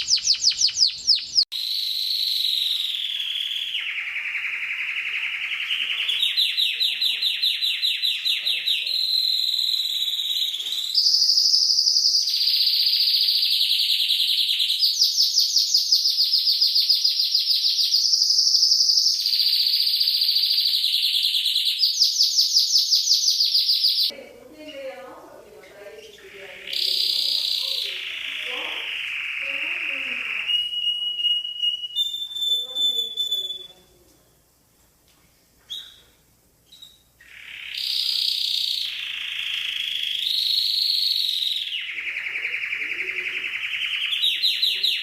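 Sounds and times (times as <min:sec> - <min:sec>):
canary singing trills: 0:00.0 - 0:34.0, 0:35.6 - 0:45.0.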